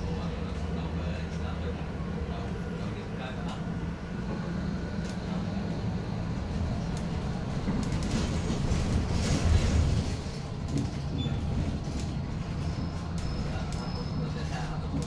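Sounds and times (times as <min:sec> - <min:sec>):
bus cabin low rumble: 0:00.0 - 0:15.0
passing bus rush: 0:00.0 - 0:15.0.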